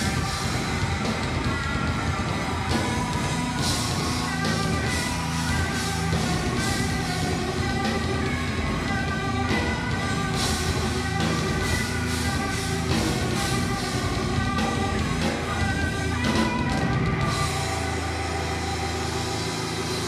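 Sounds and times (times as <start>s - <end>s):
distorted electric guitars: 0.0s - 20.0s
drum kit with crashing cymbals: 0.0s - 20.0s.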